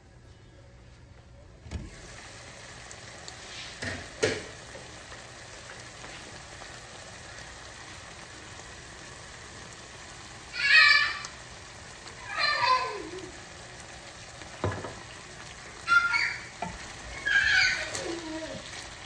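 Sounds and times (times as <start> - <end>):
sauce bubbling and sizzling: 1.8 - 19.0.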